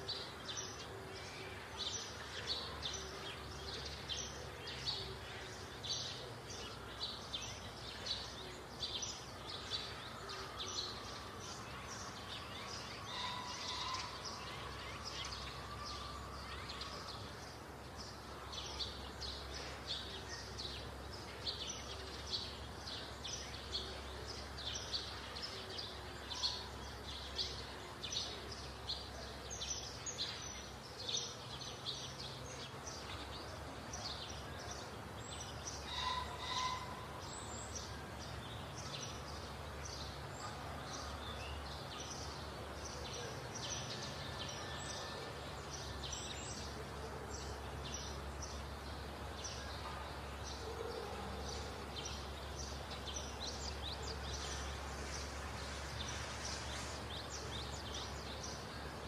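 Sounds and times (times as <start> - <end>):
birds chirping: 0.0 - 59.0
low rumble background noise: 0.0 - 59.0.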